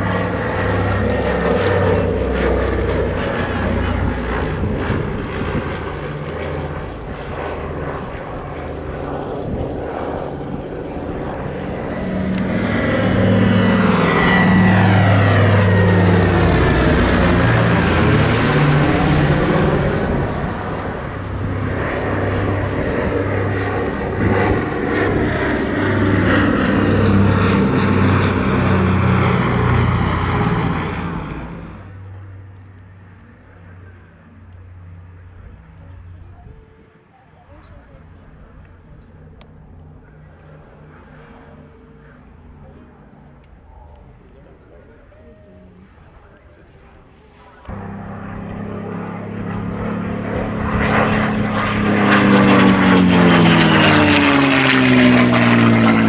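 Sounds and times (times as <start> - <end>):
propeller aircraft flying past: 0.0 - 56.0.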